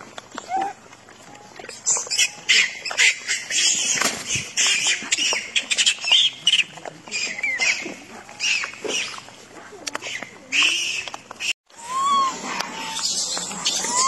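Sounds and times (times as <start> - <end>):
monkeys squealing and screeching: 1.7 - 9.3, 10.0 - 14.0.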